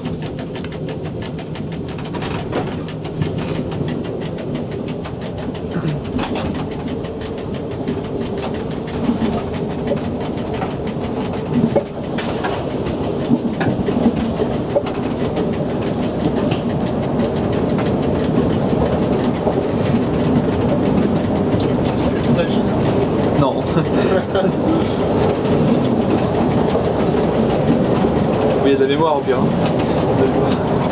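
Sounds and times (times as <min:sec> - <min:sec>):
light clicks and rattles: 0:00.0 - 0:30.9
train wheels on rail: 0:00.0 - 0:30.9.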